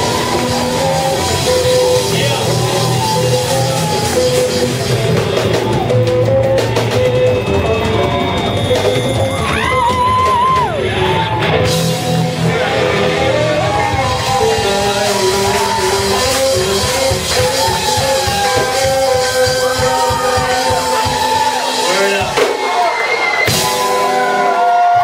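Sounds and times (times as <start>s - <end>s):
live rock band playing: 0.0s - 25.0s
vocals: 0.0s - 25.0s.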